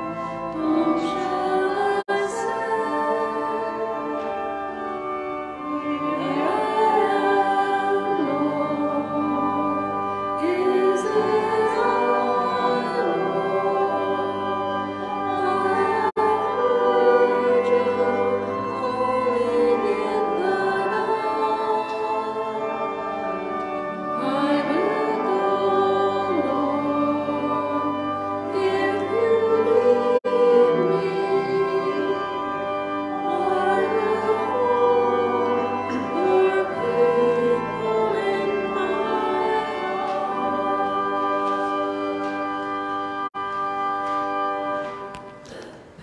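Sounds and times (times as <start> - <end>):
hymn singing with accompaniment: 0.0 - 46.0.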